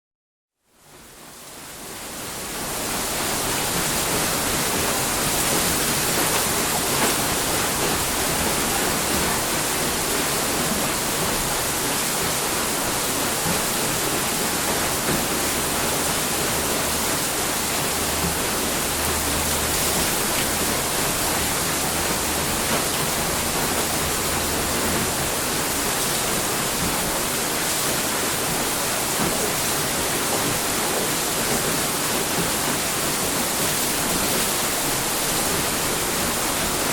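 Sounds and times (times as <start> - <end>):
water rushing: 1.3 - 36.9.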